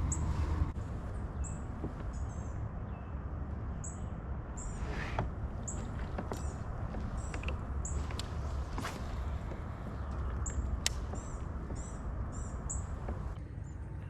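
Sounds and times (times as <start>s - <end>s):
small birds chirping: 0.0s - 13.8s
steady low rumble: 0.0s - 14.0s.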